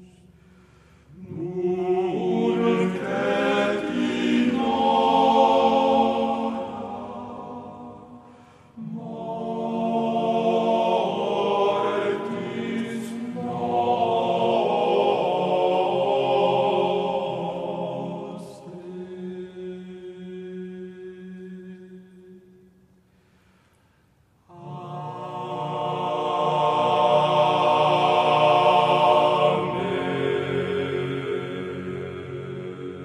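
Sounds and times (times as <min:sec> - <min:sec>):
slow chant-like vocal music: 0:00.0 - 0:33.0.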